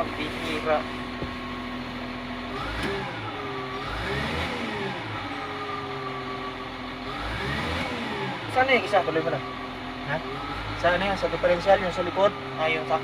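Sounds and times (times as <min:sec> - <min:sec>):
diesel engine idling and revving: 0:00.0 - 0:13.0.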